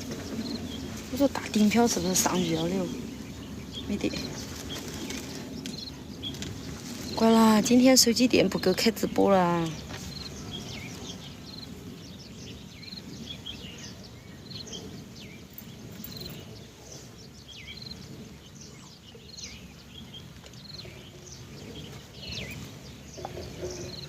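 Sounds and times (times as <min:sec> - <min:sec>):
birds chirping: 0:00.0 - 0:24.0
low outdoor rumble: 0:00.0 - 0:24.0.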